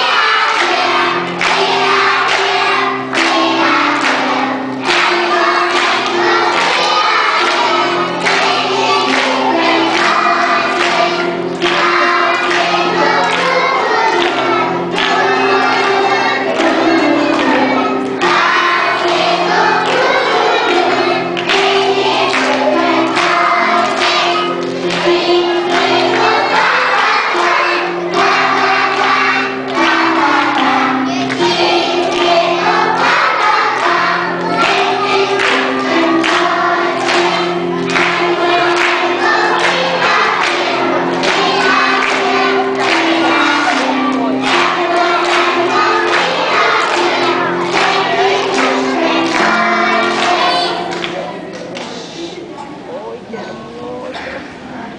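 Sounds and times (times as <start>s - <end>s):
choir singing: 0.0s - 51.5s.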